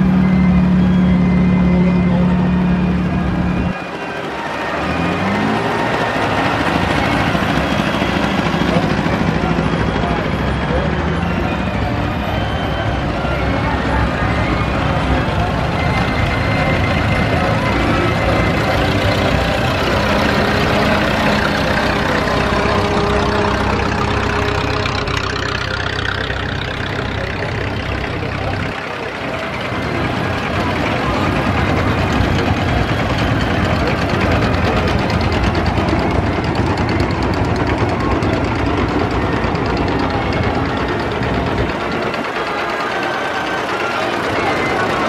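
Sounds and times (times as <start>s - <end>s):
crowd voices: 0.0s - 45.0s
tractor engines running: 0.0s - 45.0s.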